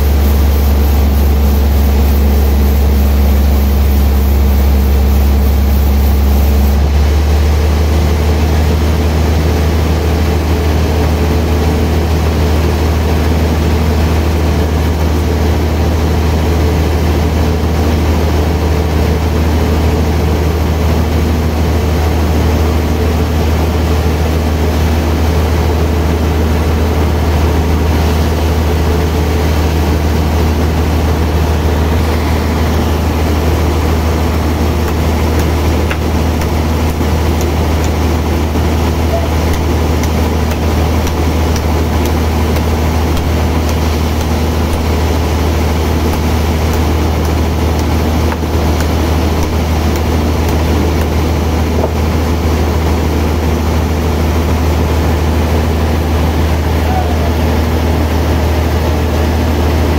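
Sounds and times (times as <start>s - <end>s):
band saw low drone: 0.0s - 59.9s.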